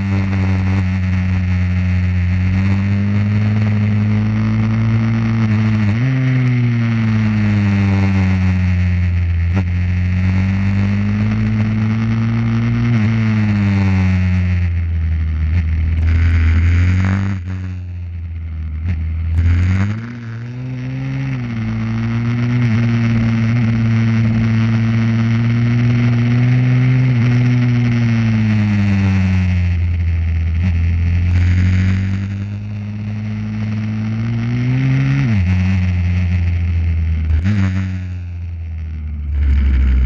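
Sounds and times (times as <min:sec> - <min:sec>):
pit bike engine revving: 0:00.0 - 0:40.0.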